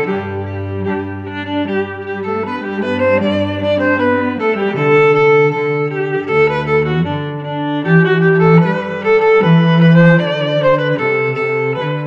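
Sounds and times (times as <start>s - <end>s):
bowed strings playing slow notes: 0.0s - 12.0s.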